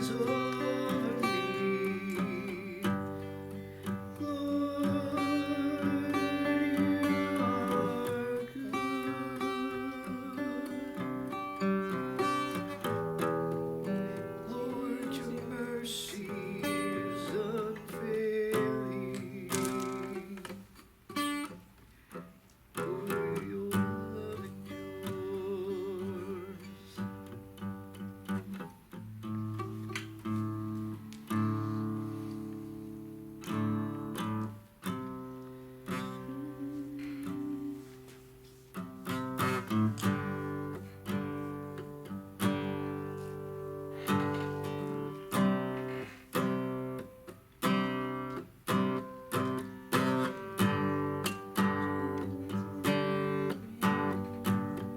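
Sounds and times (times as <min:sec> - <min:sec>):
person singing softly: 0:00.0 - 0:20.8, 0:22.7 - 0:27.4, 0:30.4 - 0:47.1, 0:49.4 - 0:54.9
acoustic guitar strumming: 0:00.0 - 0:54.9.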